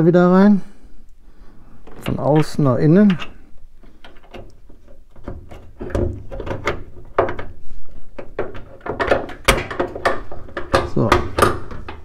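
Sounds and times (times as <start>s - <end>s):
metal clicks and knocks: 1.8s - 12.0s.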